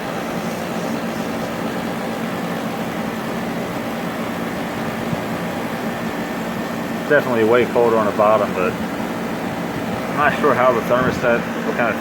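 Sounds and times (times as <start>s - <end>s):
air conditioner fan blowing: 0.0s - 12.0s
compressor humming: 0.0s - 12.0s.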